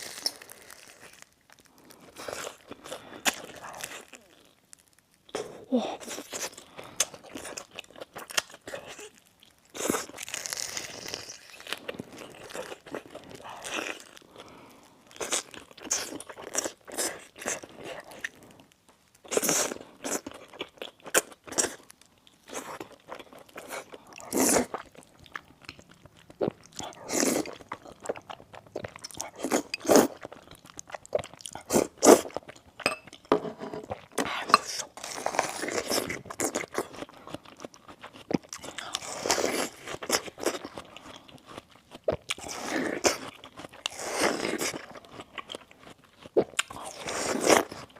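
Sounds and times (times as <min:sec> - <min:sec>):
crunchy food being chewed: 0:00.0 - 0:47.9.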